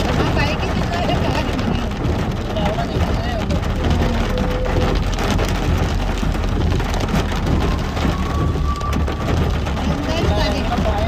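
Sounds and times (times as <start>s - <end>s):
engine and tyres rumble: 0.0s - 11.0s
heavy rain on a car: 0.0s - 11.0s.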